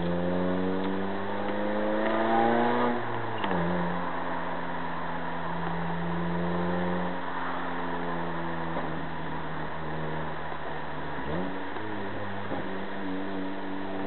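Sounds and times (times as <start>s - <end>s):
car engine cruising: 0.0s - 14.0s.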